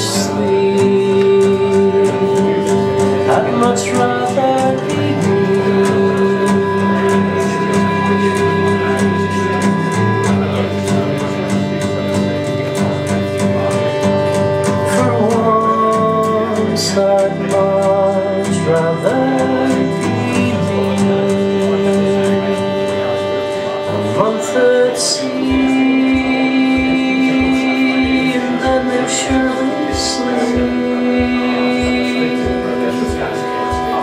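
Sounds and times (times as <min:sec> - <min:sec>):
song with singing and guitar: 0:00.0 - 0:34.0.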